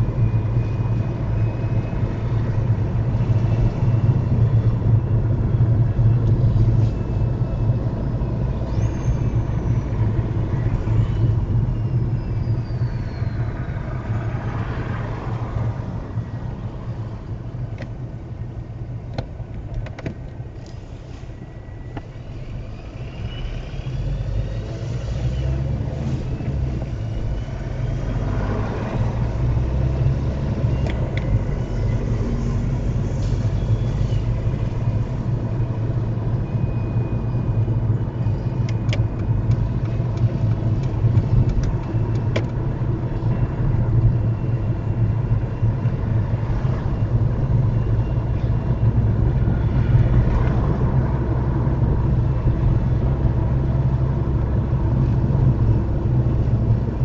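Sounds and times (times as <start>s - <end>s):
car interior road noise: 0.0s - 57.0s.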